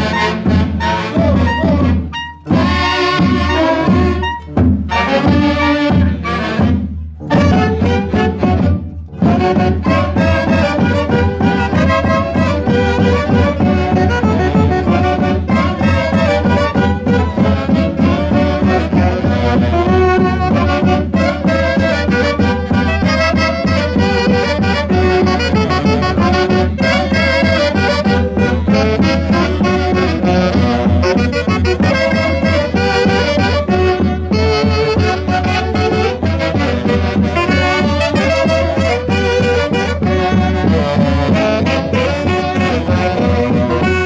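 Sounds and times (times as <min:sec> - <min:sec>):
saxophones playing lively tune: 0:00.0 - 0:44.0.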